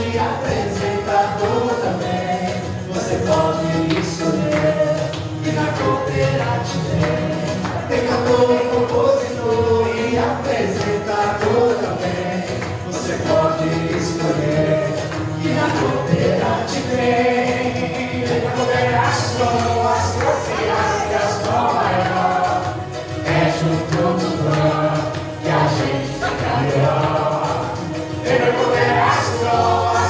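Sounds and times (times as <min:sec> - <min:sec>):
group singing with instruments: 0:00.0 - 0:30.0.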